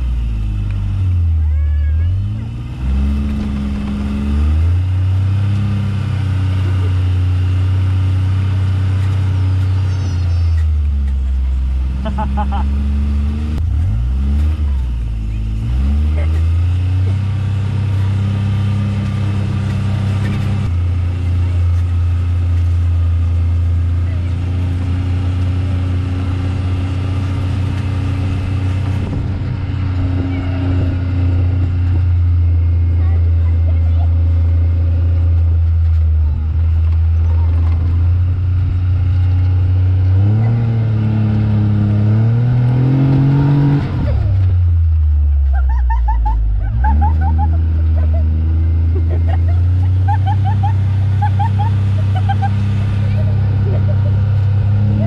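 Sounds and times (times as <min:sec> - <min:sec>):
pickup truck engine running: 0:00.0 - 0:55.0.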